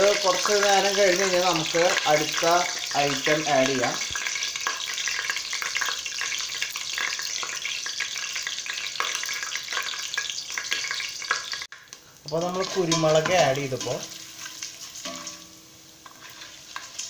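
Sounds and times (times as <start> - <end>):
oil sizzling with crackles: 0.0 - 17.0.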